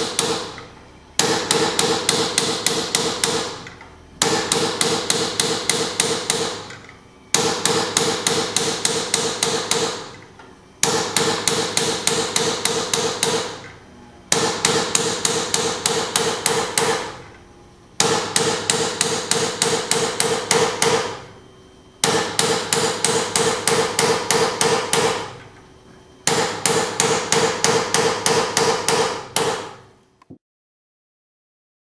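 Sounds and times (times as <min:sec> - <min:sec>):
hammer striking metal punch: 0:00.0 - 0:10.2, 0:10.8 - 0:17.3, 0:18.0 - 0:21.3, 0:22.0 - 0:25.4, 0:26.2 - 0:29.9.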